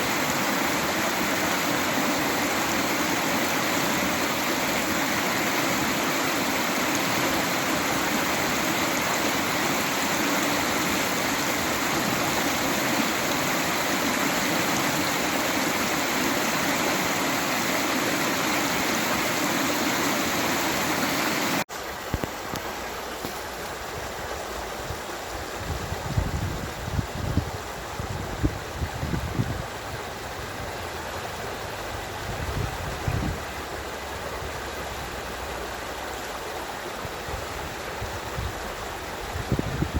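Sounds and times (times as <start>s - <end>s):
water rushing: 0.0s - 26.8s, 27.6s - 39.9s
flowing water: 0.0s - 39.9s.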